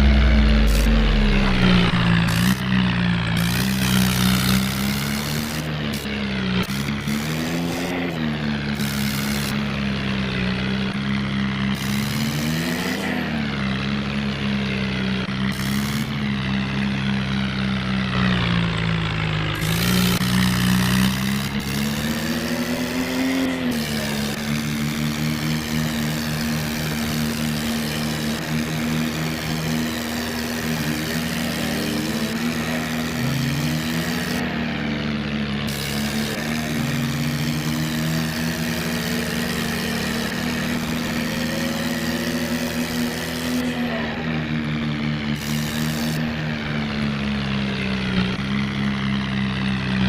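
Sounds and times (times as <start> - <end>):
toy tractor motor droning: 0.0 - 50.0.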